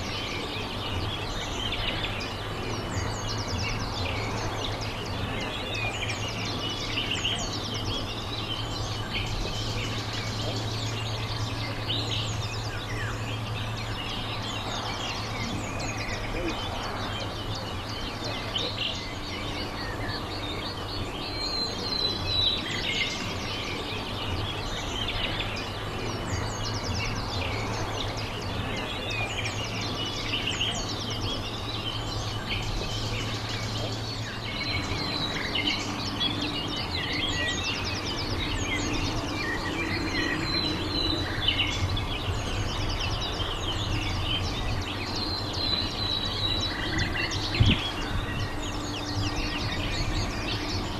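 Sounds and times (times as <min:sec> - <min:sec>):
small birds chirping and trilling: 0:00.0 - 0:50.9
steady low hum: 0:00.0 - 0:50.9.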